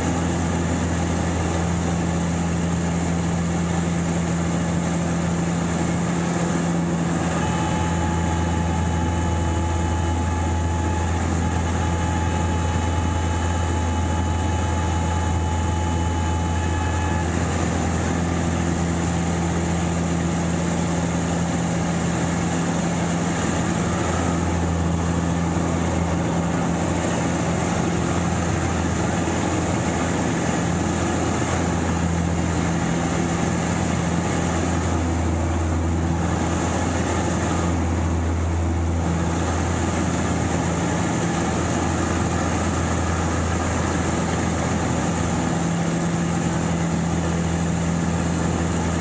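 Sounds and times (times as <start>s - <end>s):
airplane engine drone: 0.0s - 49.0s.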